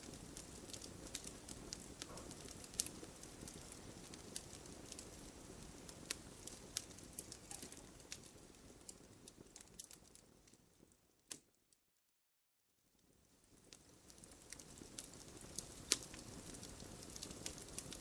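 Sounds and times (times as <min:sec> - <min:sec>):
low rush of flame: 0:00.0 - 0:10.9, 0:13.0 - 0:18.0
wood fire crackling and popping: 0:00.0 - 0:11.6, 0:12.9 - 0:18.0.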